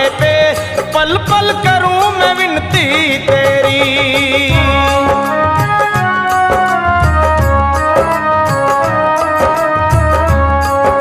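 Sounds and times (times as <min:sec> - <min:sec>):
devotional song with instruments: 0:00.0 - 0:11.0.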